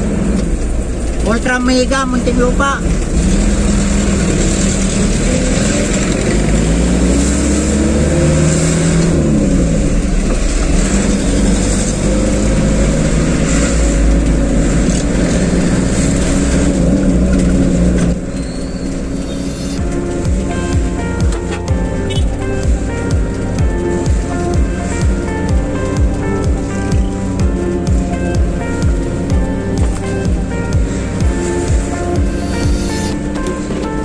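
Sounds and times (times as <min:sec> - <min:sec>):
road noise: 0:00.0 - 0:34.0
truck engine from inside cab: 0:00.0 - 0:34.0.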